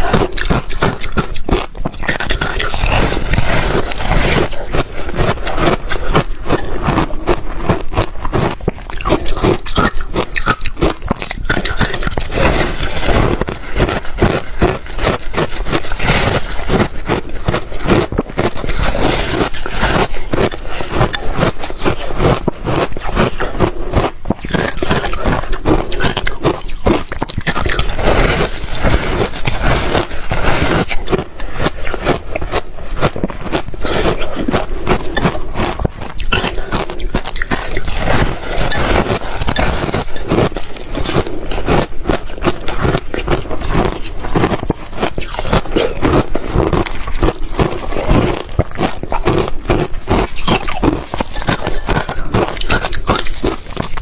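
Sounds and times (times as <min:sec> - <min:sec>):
ice being chewed crunching: 0:00.0 - 0:54.0.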